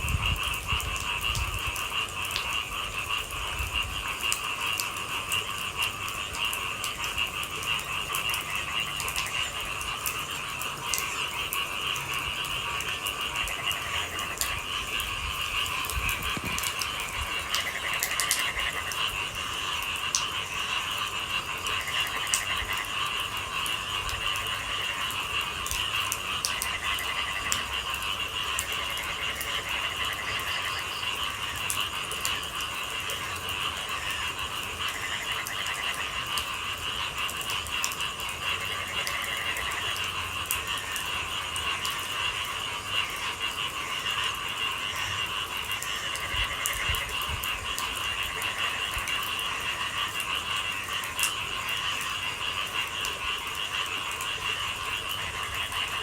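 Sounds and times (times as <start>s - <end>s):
frogs calling: 0.0s - 56.0s
rain drips: 0.0s - 56.0s
trilling frog calls: 0.0s - 56.0s.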